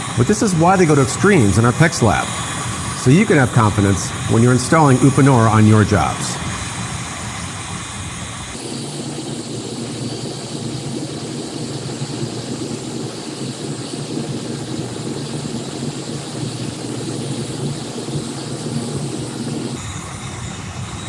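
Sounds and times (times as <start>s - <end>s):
heat gun fan blowing: 0.0s - 21.0s.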